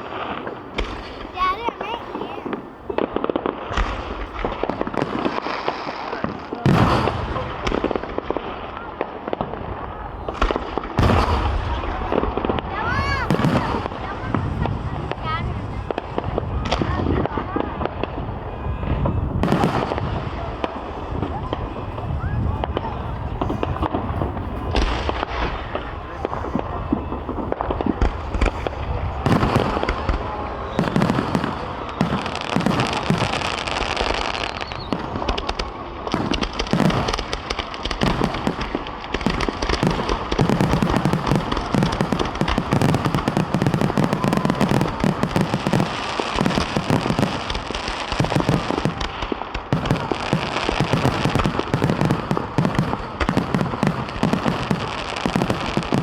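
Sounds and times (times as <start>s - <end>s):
fireworks bangs and booms: 0.0s - 56.0s
fireworks crackling: 0.0s - 56.0s.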